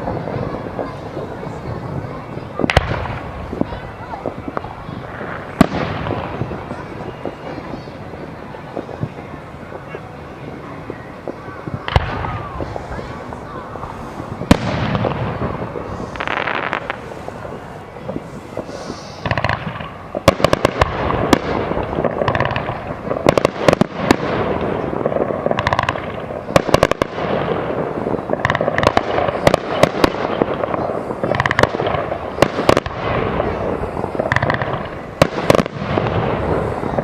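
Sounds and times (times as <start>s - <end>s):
fireworks bangs: 0.0s - 37.0s
fireworks crackling: 0.0s - 37.0s.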